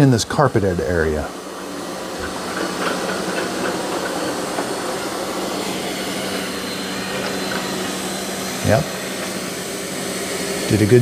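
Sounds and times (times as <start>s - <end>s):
robot vacuum suction noise: 0.0s - 11.0s.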